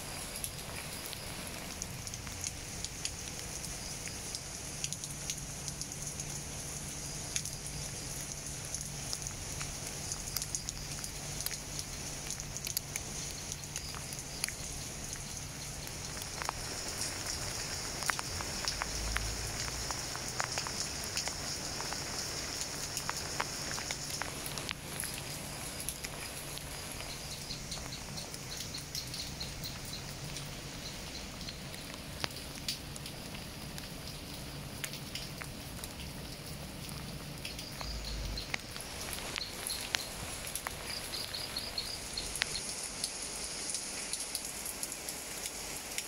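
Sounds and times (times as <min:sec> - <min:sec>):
rain hissing on leaves: 0:00.0 - 0:46.0
raindrops ticking: 0:00.0 - 0:46.0.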